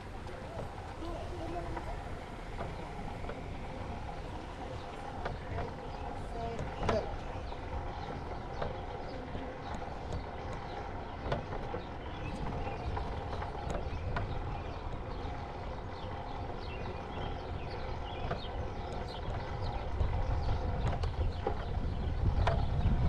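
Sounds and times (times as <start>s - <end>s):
bicycle clicks and rattles: 0.0s - 23.0s
wind rumble: 0.0s - 23.0s.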